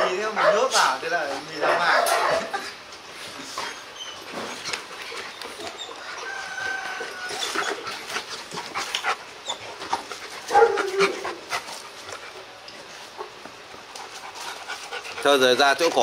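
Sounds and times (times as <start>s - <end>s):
dogs scuffling on dirt: 0.0s - 16.0s.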